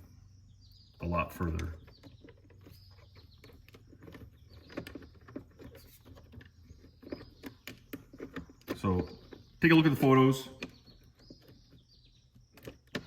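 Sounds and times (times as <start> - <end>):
plastic parts clicking and tapping: 1.4 - 9.6, 10.6 - 13.0.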